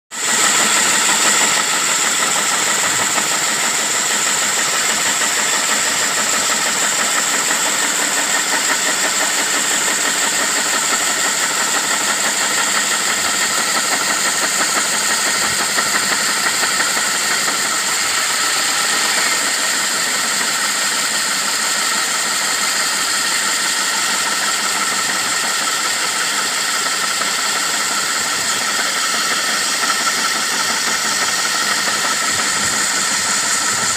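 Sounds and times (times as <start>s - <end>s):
drill bit grinding concrete: 0.1s - 33.9s
core drill motor whine: 0.2s - 33.9s.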